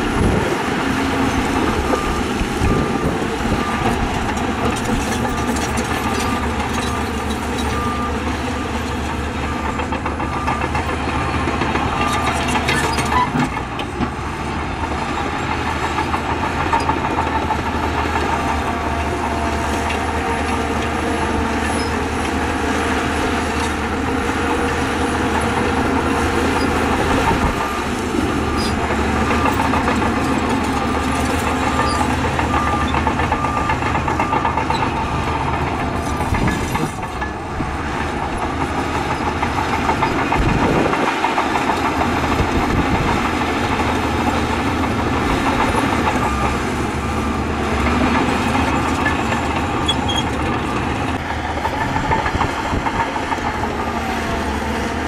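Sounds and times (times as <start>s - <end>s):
heavy machinery diesel engines: 0.0s - 55.0s.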